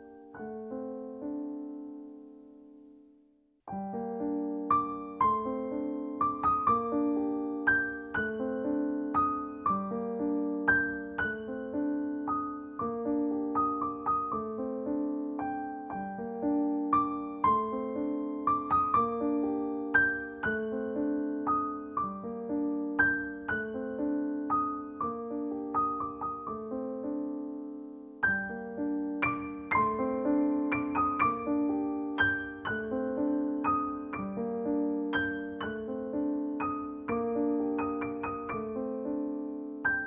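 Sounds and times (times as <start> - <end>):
gentle piano music: 0.0 - 40.0.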